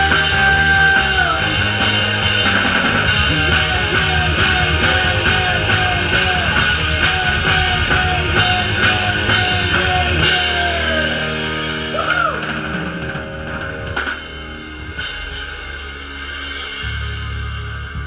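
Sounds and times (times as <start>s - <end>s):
bass guitar: 0.0s - 18.0s
drum kit beat: 0.0s - 18.0s
electric guitars: 0.0s - 18.0s.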